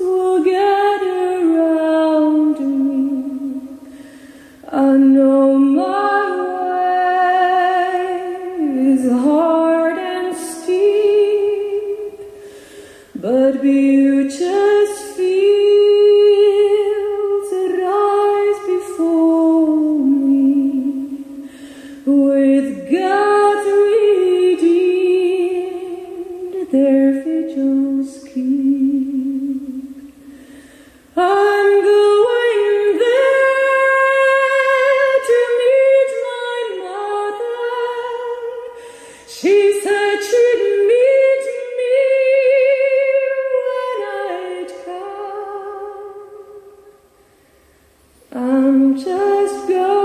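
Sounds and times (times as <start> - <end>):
women singing a cappella: 0.0 - 3.9, 4.6 - 12.3, 13.2 - 21.4, 22.0 - 30.1, 31.1 - 46.9, 48.2 - 50.0.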